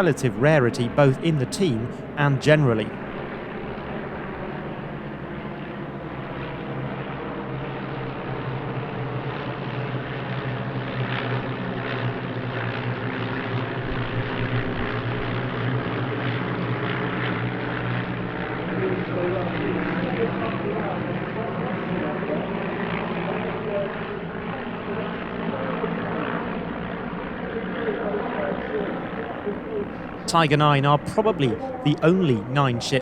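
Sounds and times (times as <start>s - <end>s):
propeller planes droning in flight: 0.0s - 33.0s.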